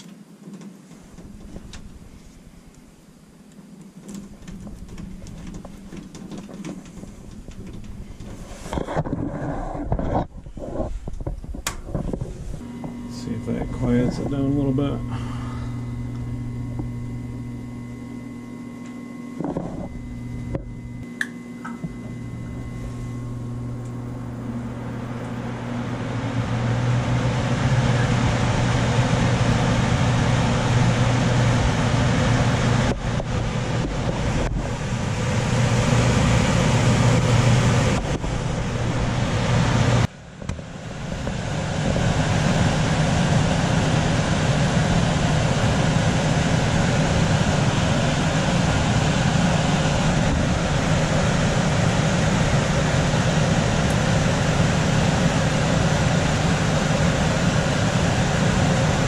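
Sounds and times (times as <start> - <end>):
furnace blower rushing air: 0.9 - 59.0.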